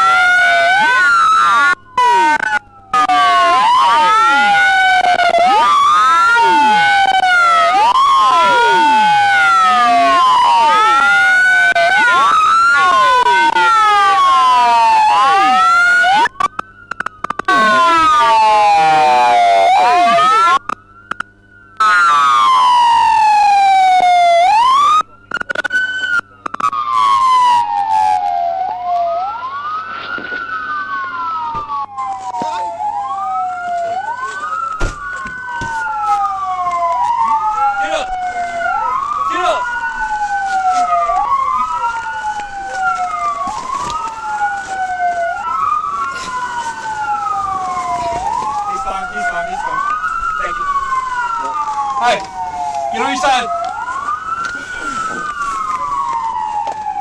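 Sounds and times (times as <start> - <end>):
police siren wailing: 0.0 - 57.0
second siren wailing: 0.0 - 57.0.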